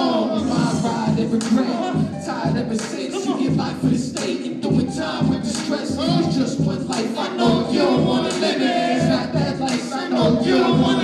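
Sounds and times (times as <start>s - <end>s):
men rapping into microphones: 0.0s - 11.0s
beat with regular kick: 0.4s - 11.0s.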